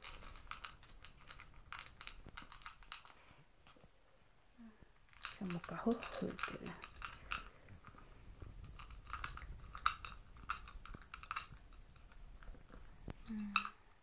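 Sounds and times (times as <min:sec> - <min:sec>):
dog crunching food: 0:00.0 - 0:03.2, 0:05.1 - 0:13.7.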